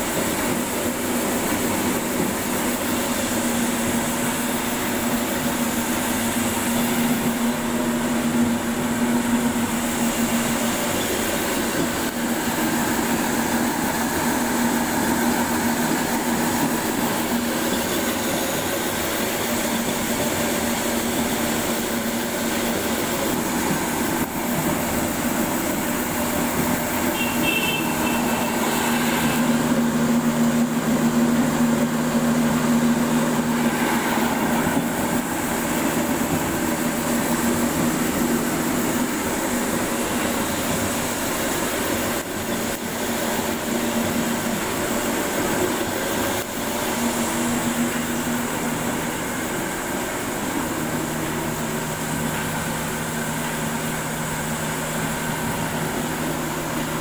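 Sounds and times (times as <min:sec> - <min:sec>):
mill mechanical drone: 0:00.0 - 0:57.0.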